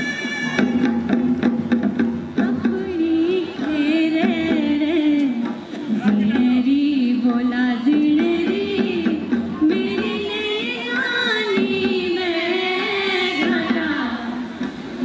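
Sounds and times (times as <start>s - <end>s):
drum beats: 0.0s - 15.0s.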